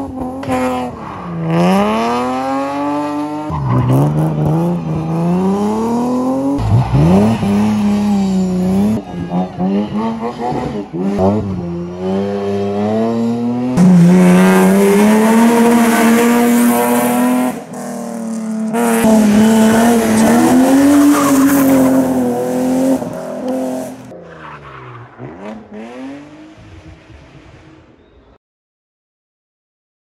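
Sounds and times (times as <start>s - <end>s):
car engine revving high: 0.0s - 24.1s, 25.2s - 27.9s.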